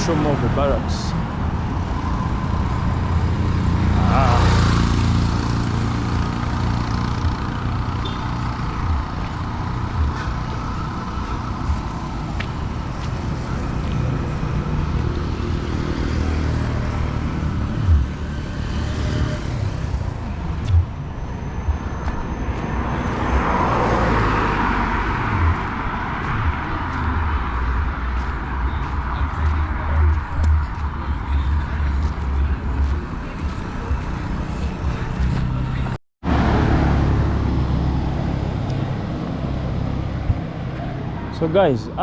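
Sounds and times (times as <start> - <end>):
rush of traffic: 0.0 - 42.0
vehicle engine and road noise: 0.0 - 42.0.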